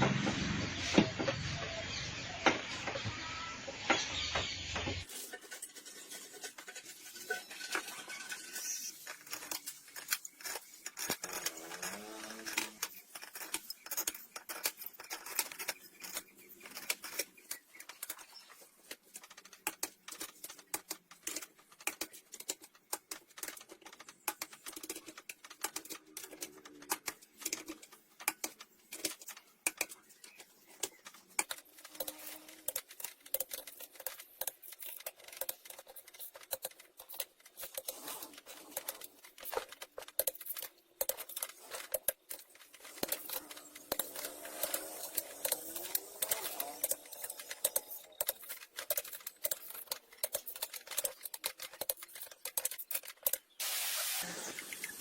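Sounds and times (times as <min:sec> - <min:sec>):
small tools clicking and tapping: 0:03.9 - 0:53.6.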